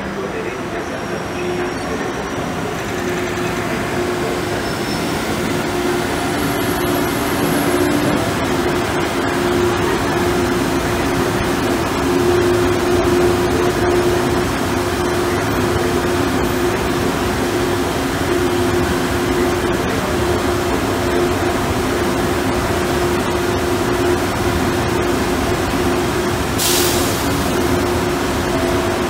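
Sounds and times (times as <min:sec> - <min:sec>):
freight train wheels rumbling: 0:00.0 - 0:29.0
steady tone: 0:02.9 - 0:29.0.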